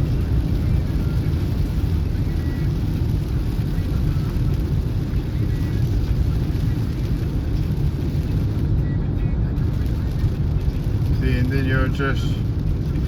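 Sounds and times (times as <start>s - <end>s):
rain hissing on car: 0.0s - 13.0s
road and engine rumble: 0.0s - 13.0s.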